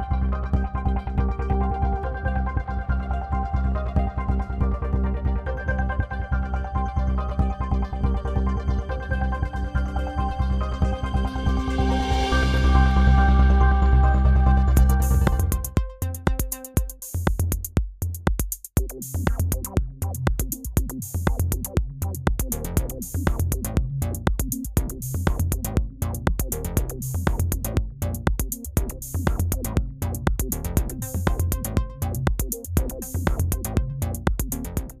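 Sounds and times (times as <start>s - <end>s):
electronic music with drum machine: 0.0s - 35.0s.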